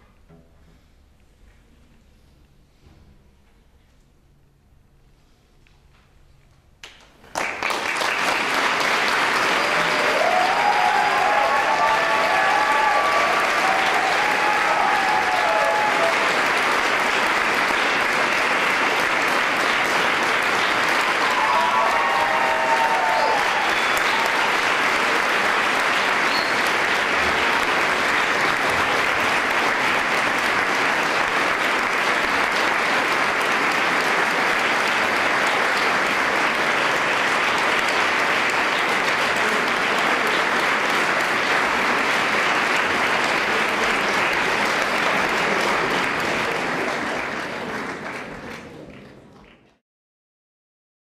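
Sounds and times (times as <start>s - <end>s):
audience applauding: 6.8s - 49.8s.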